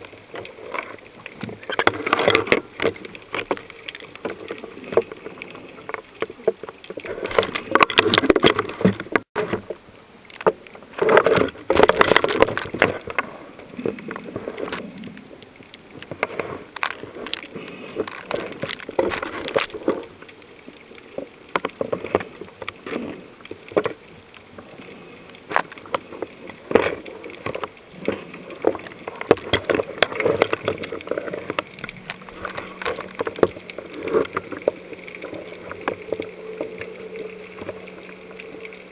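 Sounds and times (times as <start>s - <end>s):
rushing bubbling water: 0.0s - 38.9s
underwater clicking and crackling: 0.0s - 38.9s.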